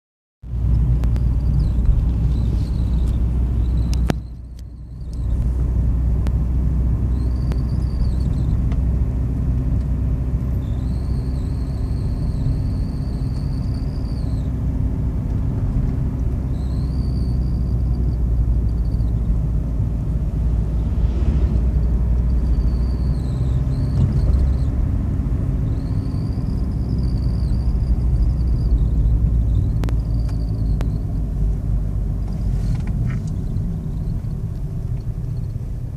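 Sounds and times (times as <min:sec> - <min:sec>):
low car rumble: 0:00.4 - 0:35.9
high-pitched dashboard squeal: 0:01.2 - 0:05.6, 0:07.0 - 0:08.7, 0:10.4 - 0:14.7, 0:16.3 - 0:35.6.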